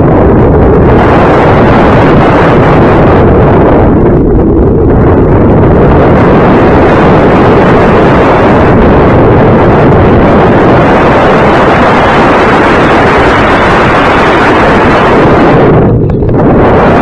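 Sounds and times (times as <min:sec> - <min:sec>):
airflow rushing over microphone: 0:00.0 - 0:17.0.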